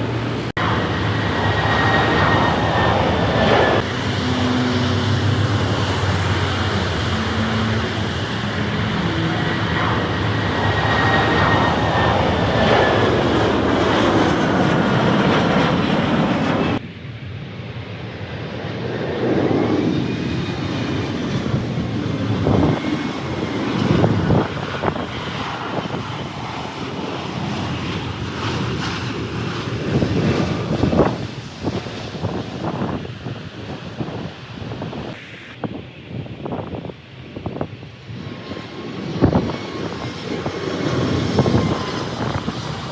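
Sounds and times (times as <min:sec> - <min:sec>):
wind on microphone: 0:00.0 - 0:16.8, 0:21.3 - 0:42.9
jet engines rushing: 0:00.0 - 0:42.9.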